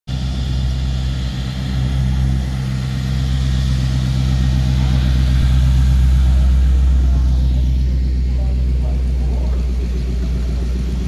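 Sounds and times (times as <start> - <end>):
car engine exhaust rumble: 0.1 - 11.0.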